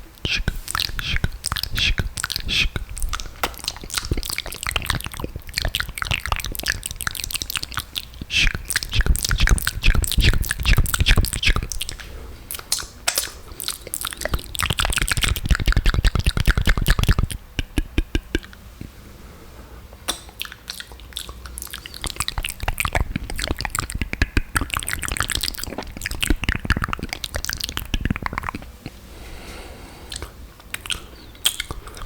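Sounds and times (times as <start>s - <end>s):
wet mouth clicks and smacks: 0.2s - 18.9s, 20.0s - 29.0s, 30.1s - 32.0s.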